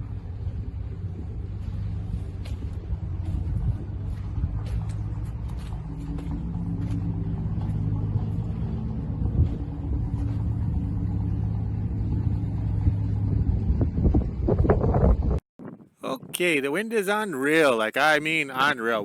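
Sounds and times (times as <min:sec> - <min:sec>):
large vehicle engine humming: 0:00.0 - 0:15.4.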